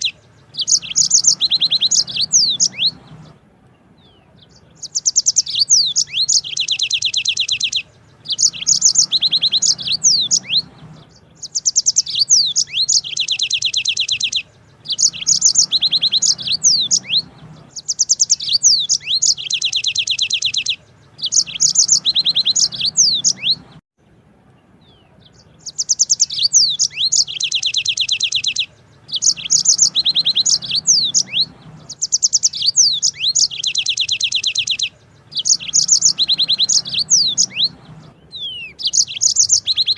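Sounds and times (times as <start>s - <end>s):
canary singing fast trills: 0.0s - 23.8s, 24.4s - 39.9s.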